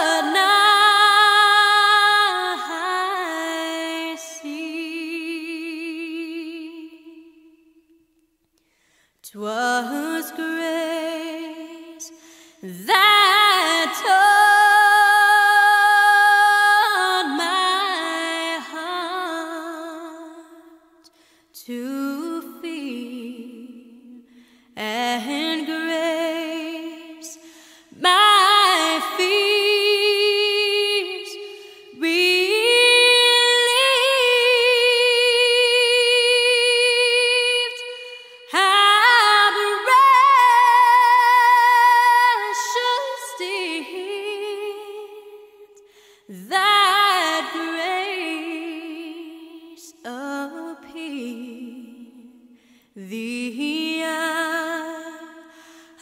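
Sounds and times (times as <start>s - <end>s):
woman singing unaccompanied: 0.0s - 7.5s, 9.3s - 20.5s, 21.6s - 24.2s, 24.8s - 45.6s, 46.3s - 52.3s.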